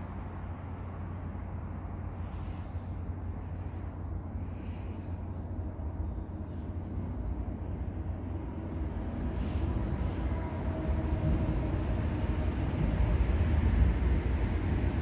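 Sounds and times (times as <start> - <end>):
train rumble approaching: 0.0 - 15.0
faint whining tones: 0.8 - 14.1.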